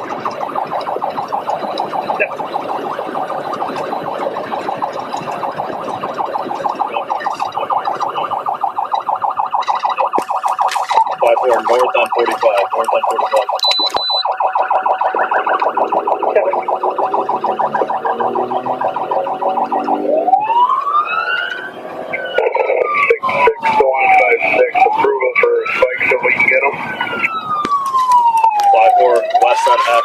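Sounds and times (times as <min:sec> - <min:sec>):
police siren warbling: 0:00.0 - 0:30.0.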